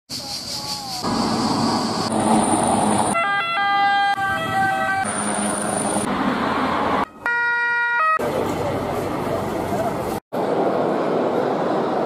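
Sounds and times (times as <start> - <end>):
passing vehicles rushing: 0.1 - 12.0.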